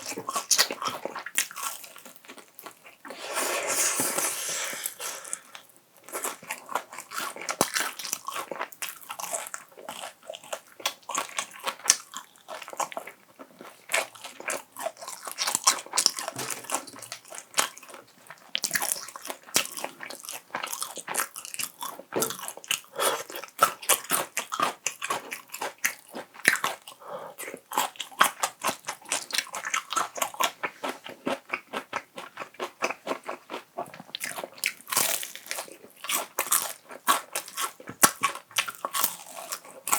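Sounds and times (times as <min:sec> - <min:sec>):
crunchy chewing: 0:00.0 - 0:03.2, 0:03.9 - 0:39.9.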